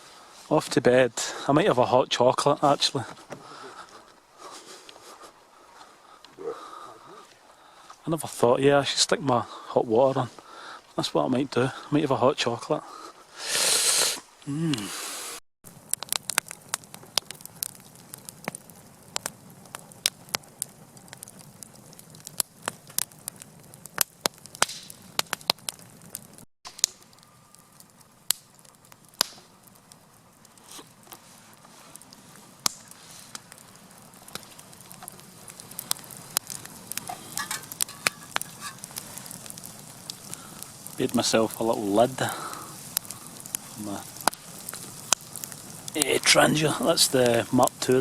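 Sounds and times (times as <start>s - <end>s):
low hiss: 0.0s - 21.4s, 27.0s - 48.0s
campfire crackling and popping: 0.0s - 48.0s.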